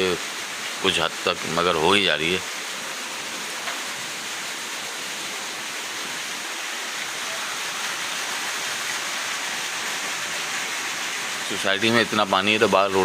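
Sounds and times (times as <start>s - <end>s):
light rain falling: 0.0s - 13.0s
rainwater running off: 0.0s - 13.0s.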